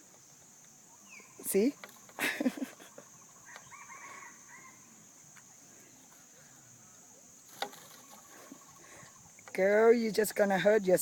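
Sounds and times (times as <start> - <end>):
small bird chirping: 0.3 - 6.3, 6.9 - 9.9.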